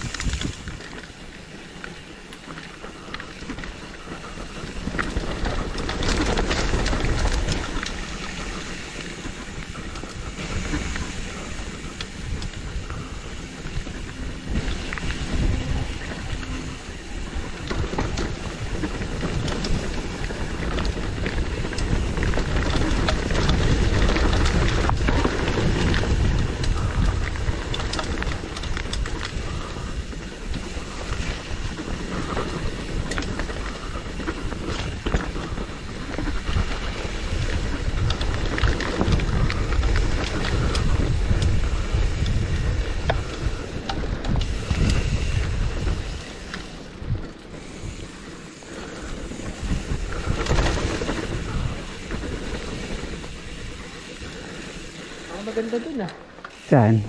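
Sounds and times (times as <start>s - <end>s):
wind rumble on microphone: 0.0s - 55.4s
bike rattling over bumps: 0.0s - 57.0s
tyres on dirt: 0.0s - 57.0s.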